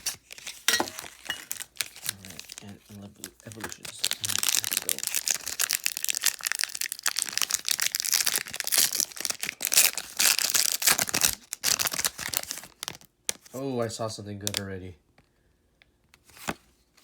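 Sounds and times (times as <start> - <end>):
foil wrapper tearing and crinkling: 0.0 - 13.6.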